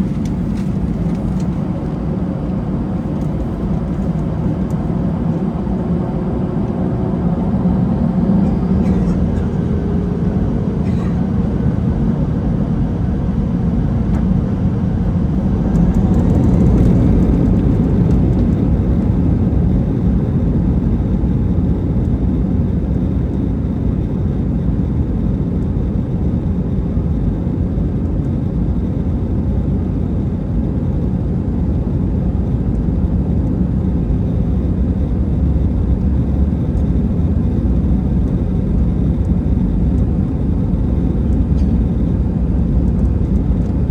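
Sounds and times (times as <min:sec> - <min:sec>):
jet engine roar inside cabin: 0:00.0 - 0:43.9.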